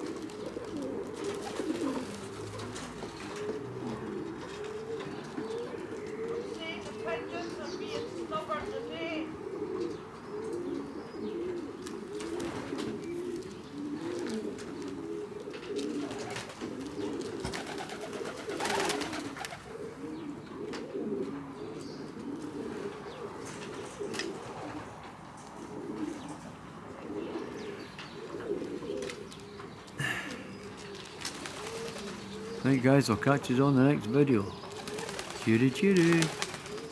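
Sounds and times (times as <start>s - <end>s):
pigeons cooing: 0.0s - 36.9s.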